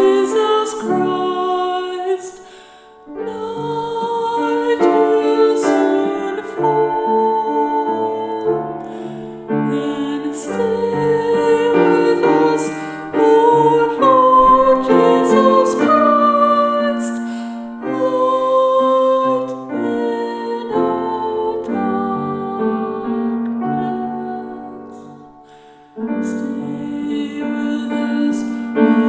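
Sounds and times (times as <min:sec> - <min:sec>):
keyboard accompaniment: 0:00.0 - 0:29.0.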